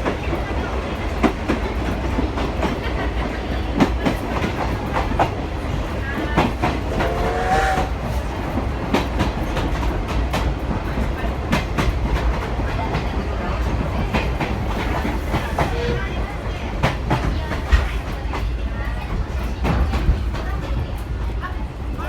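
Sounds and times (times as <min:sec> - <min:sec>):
train coach low rumble: 0:00.0 - 0:22.0.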